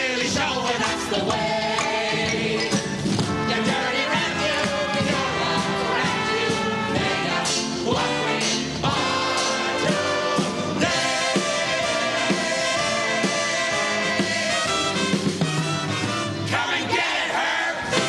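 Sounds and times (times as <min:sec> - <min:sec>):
chorus singing a show tune: 0:00.0 - 0:15.5, 0:16.4 - 0:18.0
orchestra with brass: 0:00.0 - 0:18.0.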